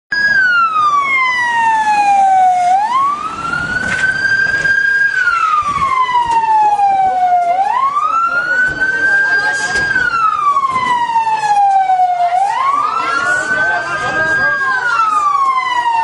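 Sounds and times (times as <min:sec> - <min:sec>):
ambulance siren wailing: 0:00.1 - 0:16.0.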